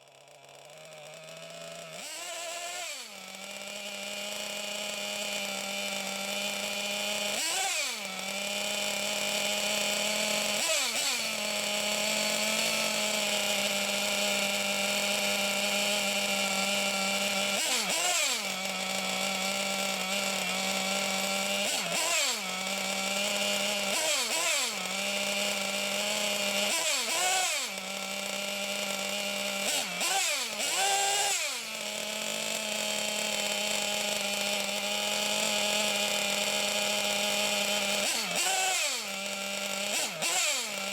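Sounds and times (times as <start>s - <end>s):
miniature engine buzzing: 0.0s - 40.9s.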